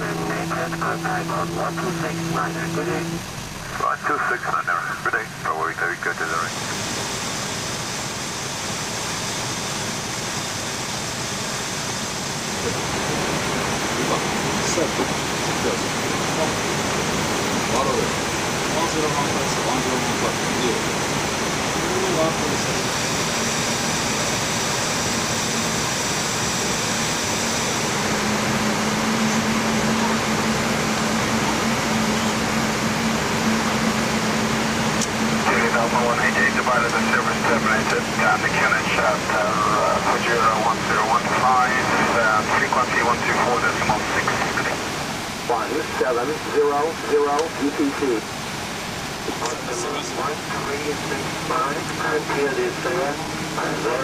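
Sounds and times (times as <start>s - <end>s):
air streaming past cockpit: 0.0s - 54.0s
steady hum: 0.0s - 54.0s.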